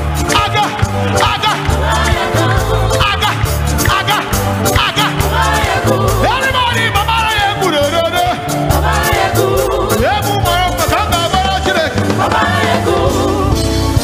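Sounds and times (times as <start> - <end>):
bass line: 0.0 - 14.0
drums: 0.0 - 14.0
man singing gospel: 0.3 - 13.6.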